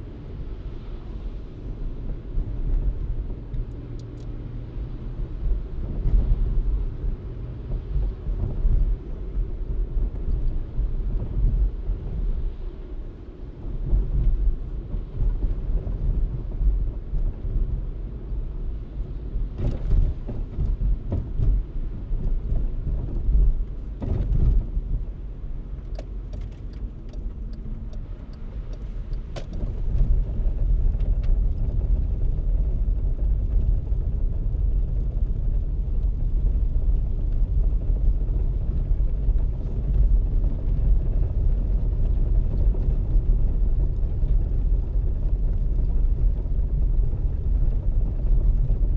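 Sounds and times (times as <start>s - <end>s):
car tyre and road rumble: 0.0s - 48.9s.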